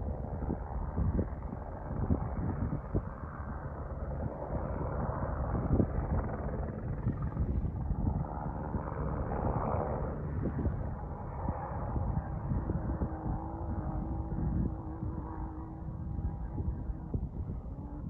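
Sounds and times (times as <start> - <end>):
distant helicopter flying: 0.0 - 18.0
wind buffeting microphone: 0.0 - 18.0.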